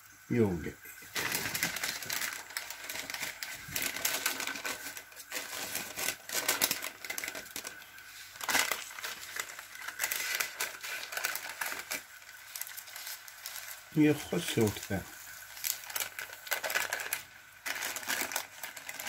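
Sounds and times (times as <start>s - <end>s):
patty frying in oil: 0.0s - 19.0s
baking paper rustling: 0.3s - 19.0s.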